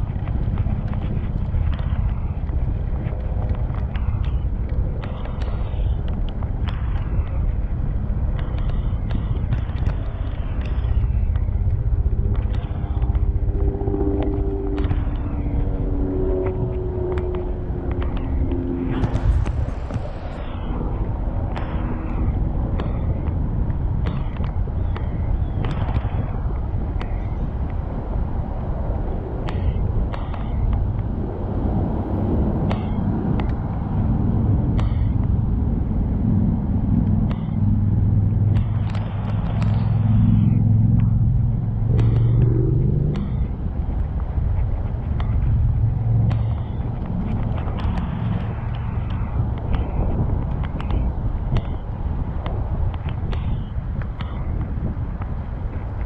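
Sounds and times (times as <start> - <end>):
bicycle road rumble: 0.0 - 56.0
passing motor vehicle drone: 0.0 - 56.0
wind on microphone: 0.0 - 56.0.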